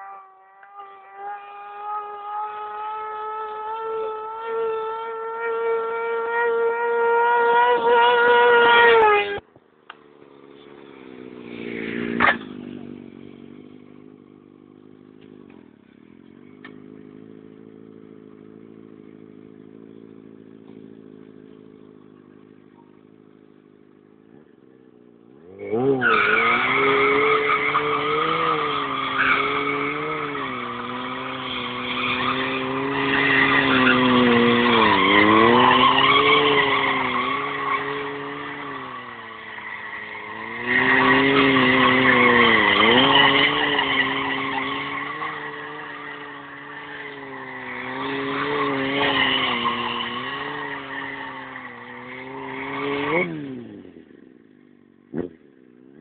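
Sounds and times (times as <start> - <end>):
motorcycle engine revving: 0.0 - 56.0
tyre screeching on asphalt: 0.0 - 56.0.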